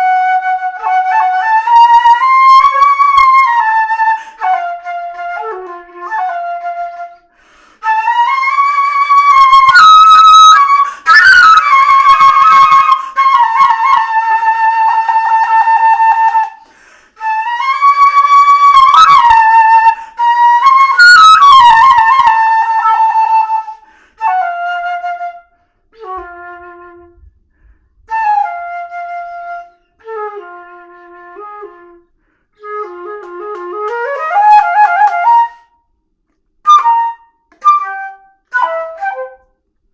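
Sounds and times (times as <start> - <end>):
solo flute playing: 0.0 - 36.0, 36.6 - 39.6.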